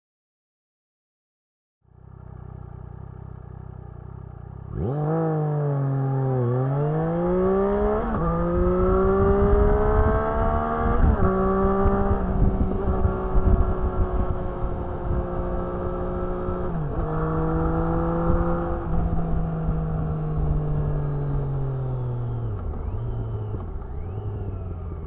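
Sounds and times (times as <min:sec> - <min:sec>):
motorcycle engine revving: 0:01.9 - 0:25.0.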